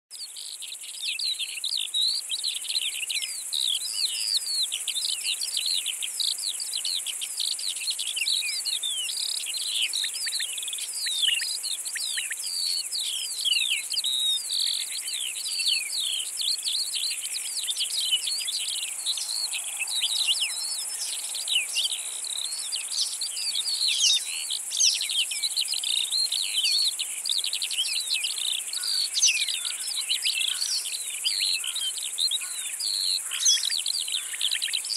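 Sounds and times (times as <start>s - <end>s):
insects stridulating: 0.2s - 34.9s.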